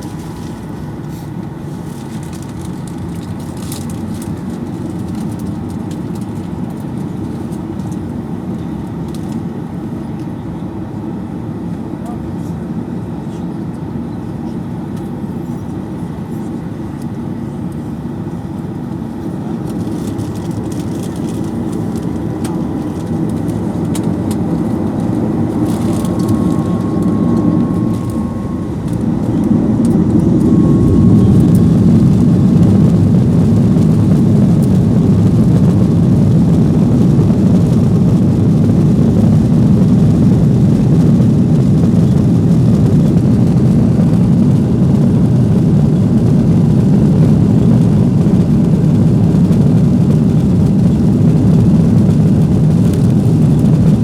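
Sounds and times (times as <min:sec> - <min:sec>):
jet engines from inside cabin: 0:00.0 - 0:54.0.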